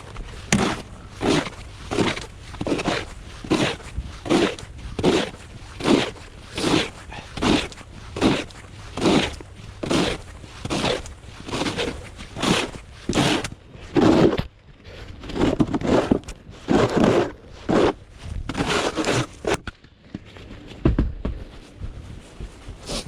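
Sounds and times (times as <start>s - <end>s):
snow crunching and scraping: 0.0s - 19.6s.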